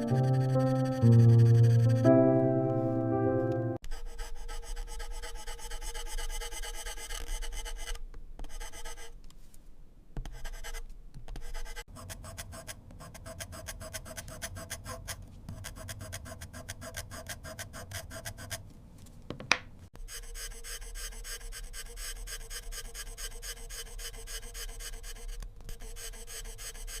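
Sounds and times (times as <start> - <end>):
pencil scratching on paper: 0.0 - 2.0, 3.8 - 9.2, 10.2 - 18.6, 20.0 - 27.0.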